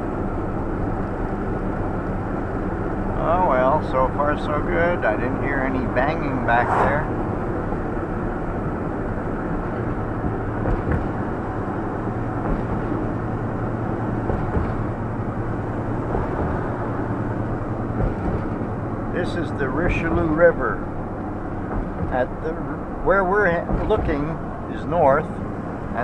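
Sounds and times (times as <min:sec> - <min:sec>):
vehicle engine and tyre rumble: 0:00.0 - 0:26.0.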